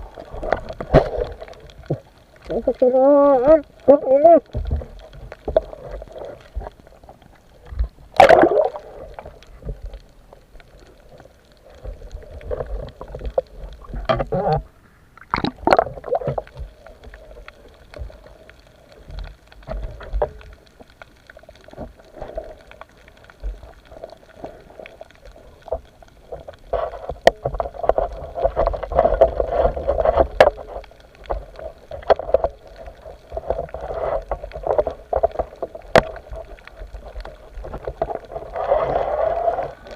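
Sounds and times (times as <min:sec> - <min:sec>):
water wash and rumble: 0:00.0 - 0:39.9.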